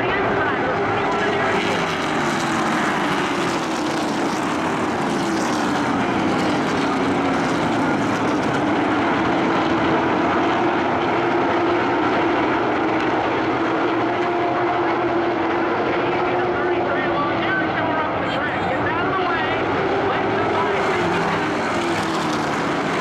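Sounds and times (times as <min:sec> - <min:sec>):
racing truck engines droning: 0:00.0 - 0:23.0.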